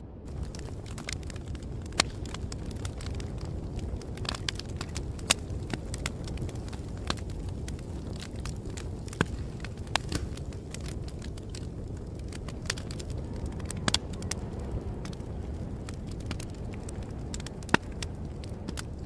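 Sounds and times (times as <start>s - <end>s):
low rumble: 0.0s - 19.0s
wood fire crackling: 0.0s - 19.0s.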